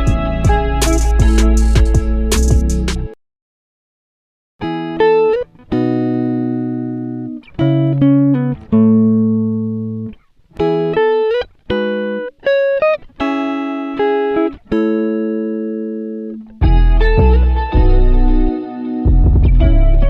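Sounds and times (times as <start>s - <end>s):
plucked guitar notes: 0.0s - 3.2s, 4.6s - 20.0s.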